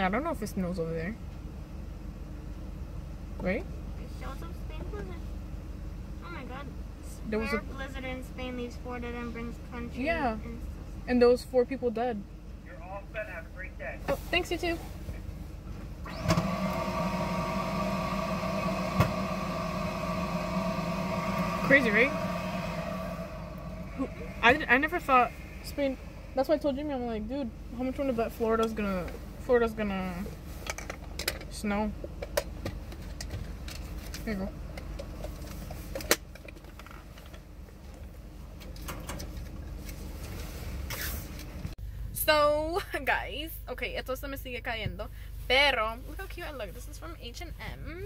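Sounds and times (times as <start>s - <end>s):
low steady rumble: 0.0s - 48.0s
steady mechanical hum: 0.0s - 48.0s.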